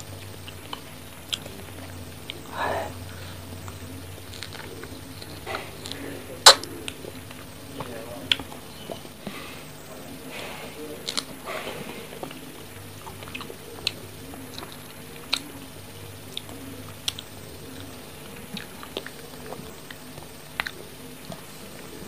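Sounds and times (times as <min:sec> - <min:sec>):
mouth chewing with wet smacks: 0:00.0 - 0:22.0.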